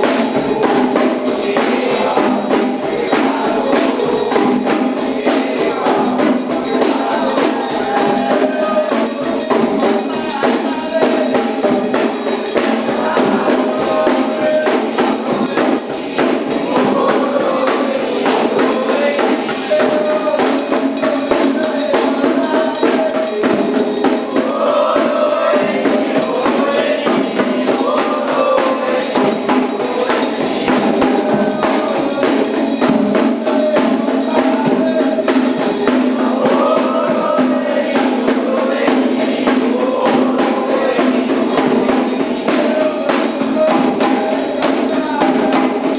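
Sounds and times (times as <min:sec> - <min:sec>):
group of voices singing: 0:00.0 - 0:45.9
hand percussion: 0:00.0 - 0:45.9.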